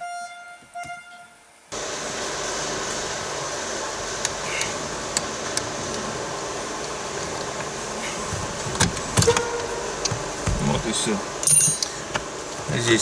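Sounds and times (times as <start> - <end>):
fan-like hiss: 1.5 - 13.0.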